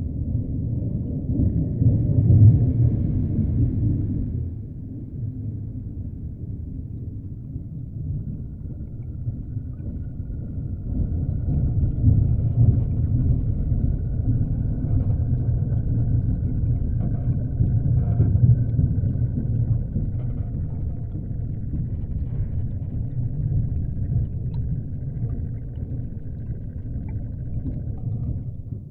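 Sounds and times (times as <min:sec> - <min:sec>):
low underwater rumble: 0:00.0 - 0:28.9.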